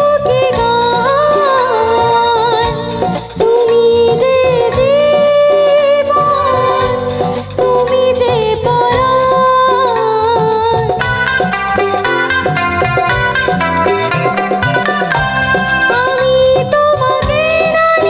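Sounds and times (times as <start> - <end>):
live band with keyboard and drums: 0.0 - 18.0
woman singing into microphone: 0.0 - 18.0.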